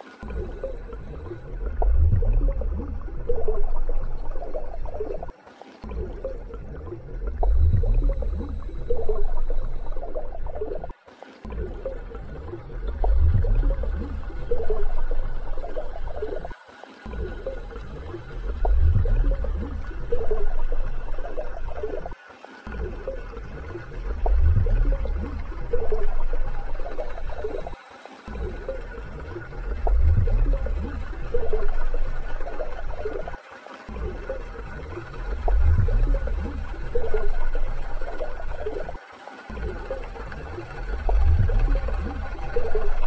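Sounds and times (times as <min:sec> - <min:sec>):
underwater rumbling and gurgling: 0:00.0 - 0:43.0.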